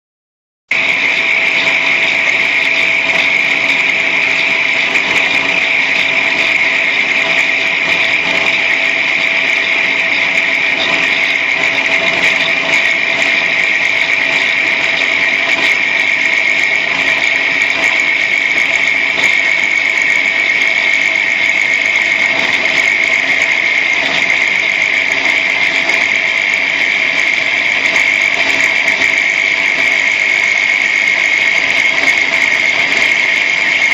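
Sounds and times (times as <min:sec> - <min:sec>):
angle grinder whining: 0:00.7 - 0:33.9.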